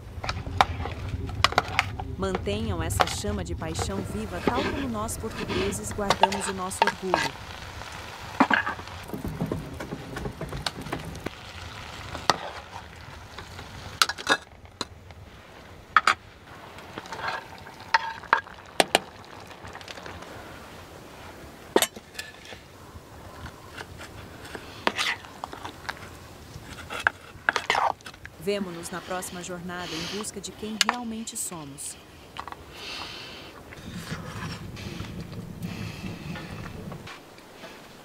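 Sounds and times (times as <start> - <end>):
faint sizzle: 0.0 - 38.0.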